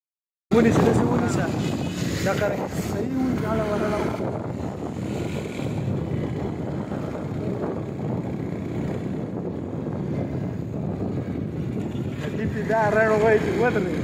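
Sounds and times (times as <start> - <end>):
motorcycle engine running: 0.5 - 14.0
wind rushing over microphone: 0.5 - 14.0.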